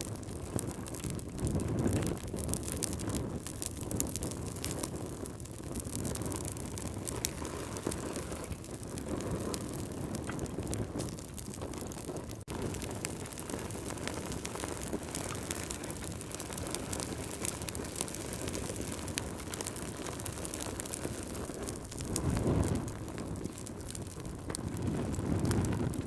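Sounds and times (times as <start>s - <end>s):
fire crackling and popping: 0.0s - 26.0s
low rumble of flame: 0.0s - 26.0s.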